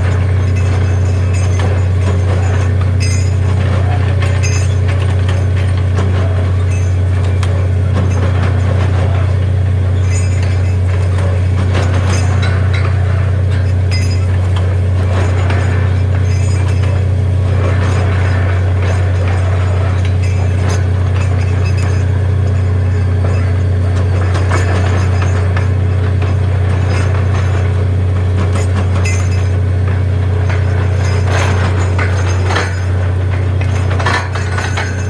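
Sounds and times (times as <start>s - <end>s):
drilling gear rattling and clinking: 0.0s - 35.0s
drilling rig engine drone: 0.0s - 35.0s.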